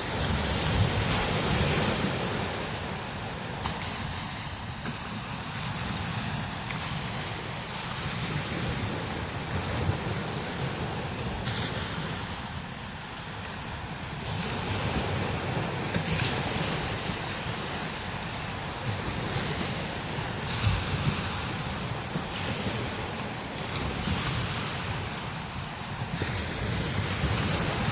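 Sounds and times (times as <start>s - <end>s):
strong wind gusting: 0.0s - 27.9s
wind buffeting microphone: 0.0s - 27.9s.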